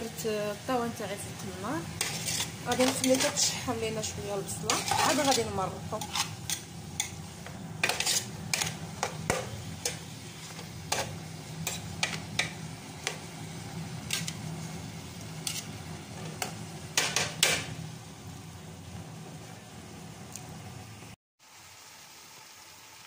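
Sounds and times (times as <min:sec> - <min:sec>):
faint sizzle: 0:00.0 - 0:23.0.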